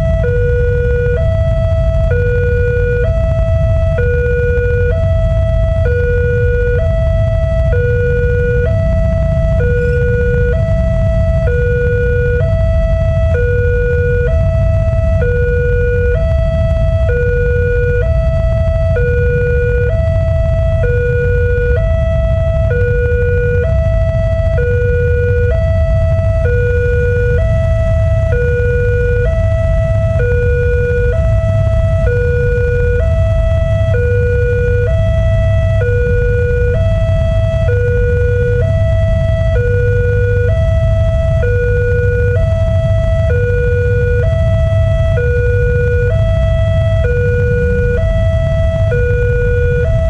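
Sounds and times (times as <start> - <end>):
low rumble: 0.0 - 50.0
two-tone warning siren: 0.0 - 50.0.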